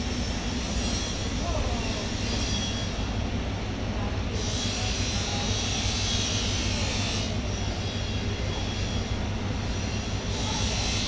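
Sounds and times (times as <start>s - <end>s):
low machinery drone: 0.0s - 11.0s.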